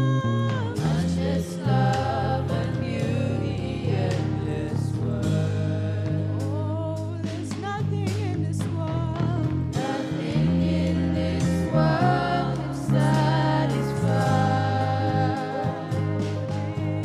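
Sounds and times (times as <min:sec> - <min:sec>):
instrumental backing: 0:00.0 - 0:17.0
person singing: 0:00.0 - 0:17.0
sustained bass notes: 0:00.0 - 0:17.0.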